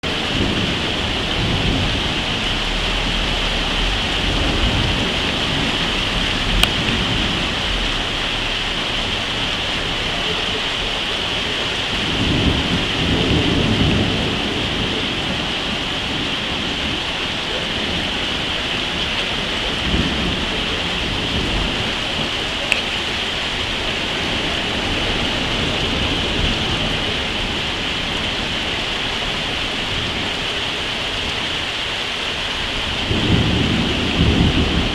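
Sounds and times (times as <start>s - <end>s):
low rolling thunder: 0.0s - 31.4s, 32.5s - 34.9s
heavy rain hissing: 0.0s - 34.9s.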